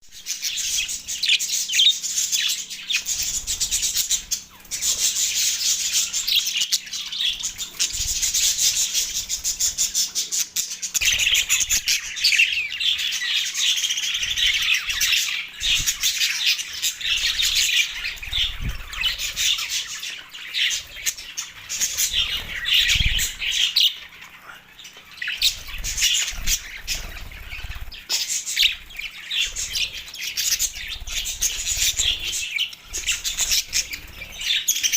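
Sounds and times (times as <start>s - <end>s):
budgerigars chattering: 0.2s - 34.9s.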